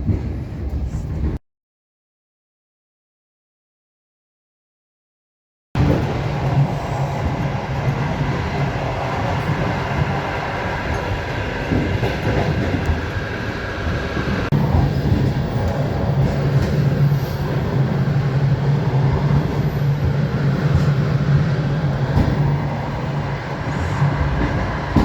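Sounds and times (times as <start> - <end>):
train wheels rumbling and rattling: 0.0 - 1.4, 5.8 - 25.0.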